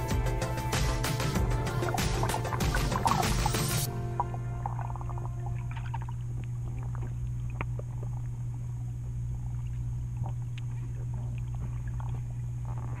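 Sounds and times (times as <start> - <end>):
underwater low hum: 0.0 - 13.0.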